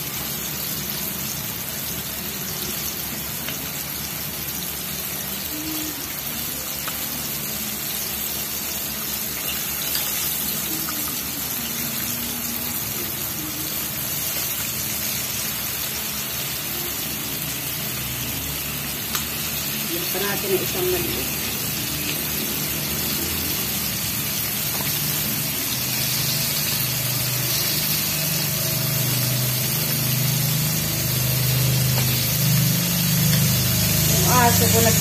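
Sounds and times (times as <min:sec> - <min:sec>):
chicken deep-frying in oil: 0:00.0 - 0:35.0.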